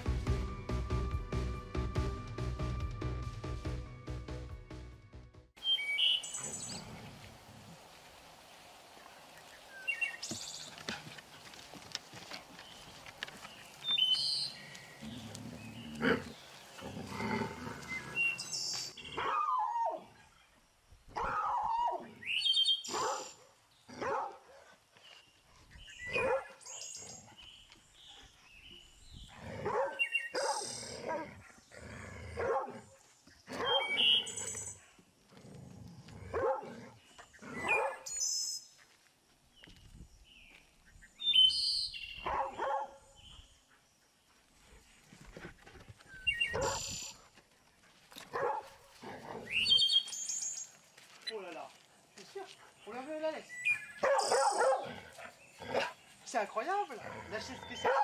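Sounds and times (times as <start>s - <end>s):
small birds chirping: 5.6s - 58.0s.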